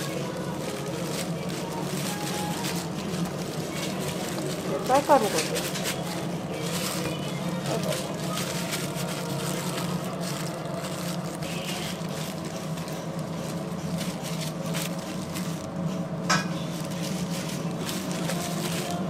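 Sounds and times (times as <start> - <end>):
low kitchen hum: 0.0 - 19.0
vinyl gloves rustling: 0.0 - 19.0.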